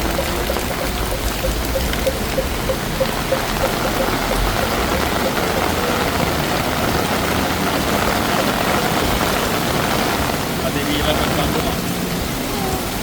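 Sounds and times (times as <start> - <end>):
vehicle engine running: 0.0 - 12.3
heavy rain pouring: 0.0 - 13.0.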